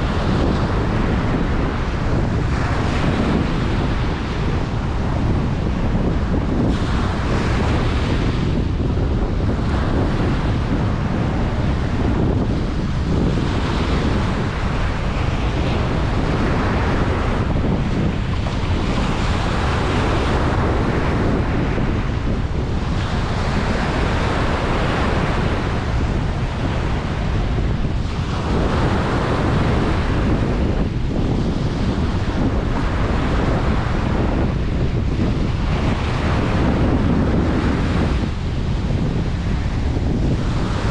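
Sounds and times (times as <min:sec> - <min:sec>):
ocean waves breaking on beach: 0:00.0 - 0:40.9
wind buffeting microphone: 0:00.0 - 0:40.9.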